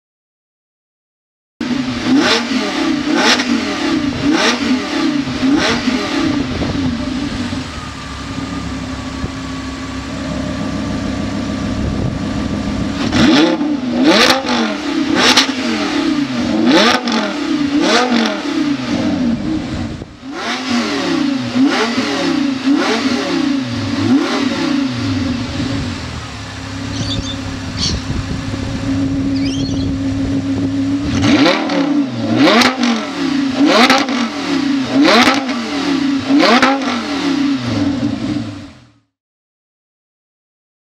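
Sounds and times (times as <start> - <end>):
car engine idling and revving: 1.6 - 39.1.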